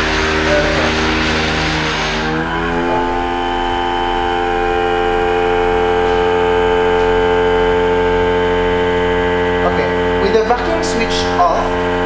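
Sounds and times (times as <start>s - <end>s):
vacuum motor whine: 0.0s - 12.0s.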